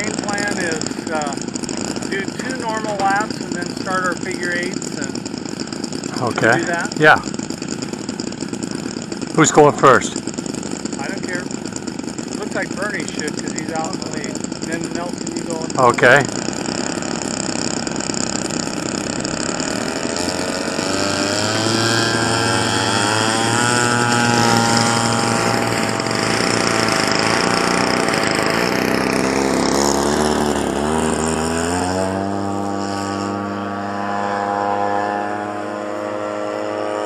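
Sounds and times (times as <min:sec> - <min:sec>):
model airplane engines at high throttle: 0:00.0 - 0:37.0.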